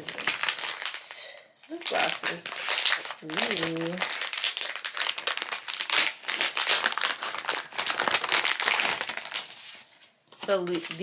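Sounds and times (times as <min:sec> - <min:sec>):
foil pouch crinkling: 0:00.0 - 0:11.0.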